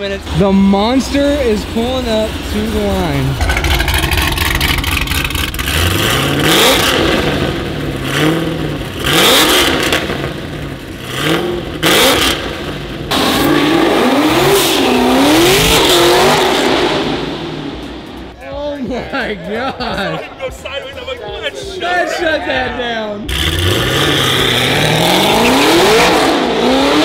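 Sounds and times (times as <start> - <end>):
car engine revving: 0.0 - 18.4, 23.2 - 27.0.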